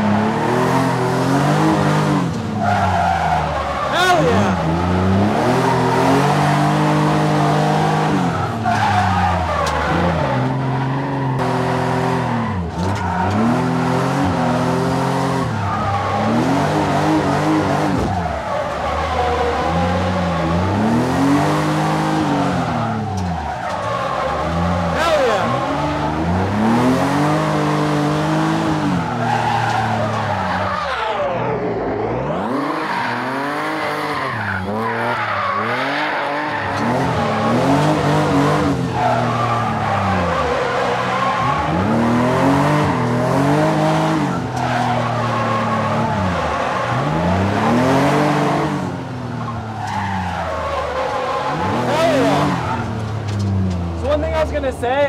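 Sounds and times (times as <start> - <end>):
car engine revving: 0.0 - 54.9
tyres skidding: 0.0 - 55.0.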